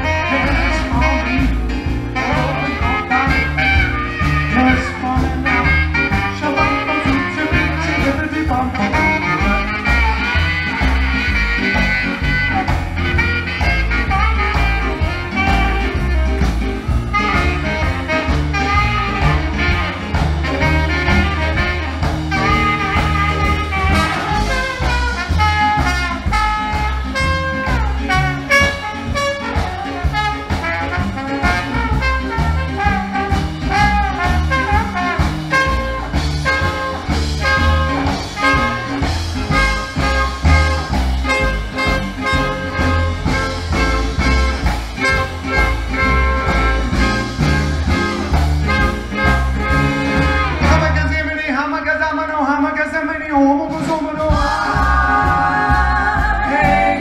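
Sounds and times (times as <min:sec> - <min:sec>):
saxophone: 0:00.0 - 0:51.1
swing band playing: 0:00.0 - 0:57.0
trumpet: 0:00.0 - 0:57.0.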